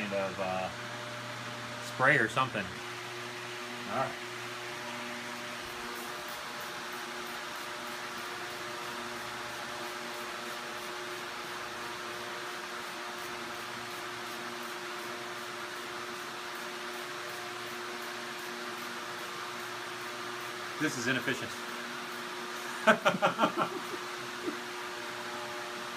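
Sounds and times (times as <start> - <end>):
electric fan humming: 0.0 - 25.9.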